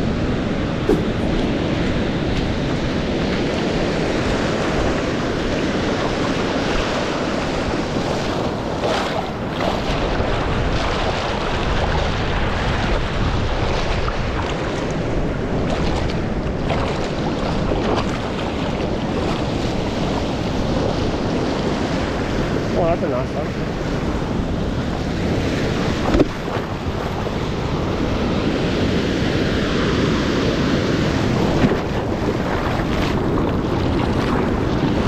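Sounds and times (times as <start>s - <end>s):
waves breaking: 0.0s - 35.0s
wind buffeting microphone: 0.0s - 35.0s
water washing over reef: 0.8s - 22.3s, 24.8s - 35.0s.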